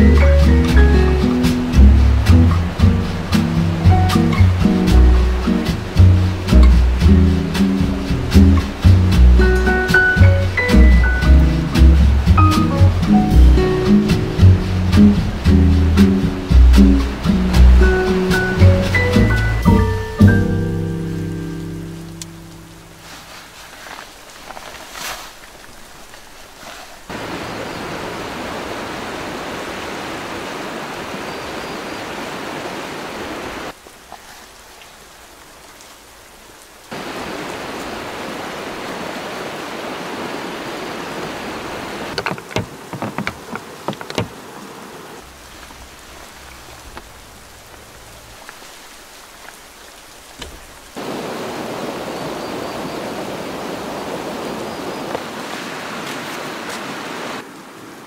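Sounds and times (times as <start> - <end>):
hiss of water: 0.0 - 42.1, 43.7 - 58.0.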